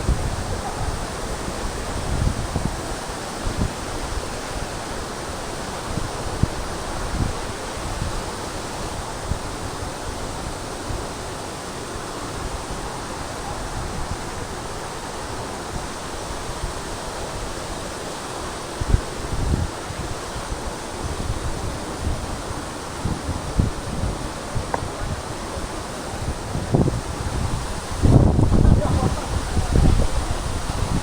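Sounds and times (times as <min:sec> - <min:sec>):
waterfall rushing: 0:00.0 - 0:31.0
wind buffeting microphone: 0:00.0 - 0:31.0.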